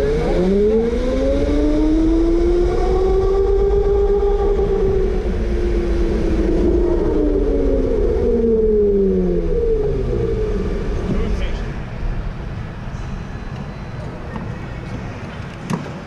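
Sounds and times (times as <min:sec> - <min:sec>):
low rumble: 0:00.0 - 0:15.4.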